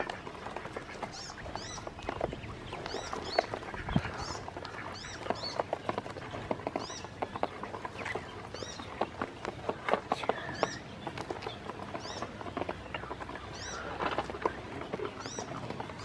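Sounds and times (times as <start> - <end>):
bills pecking on plastic basin: 0.0 - 16.0
ducklings peeping: 0.0 - 16.0.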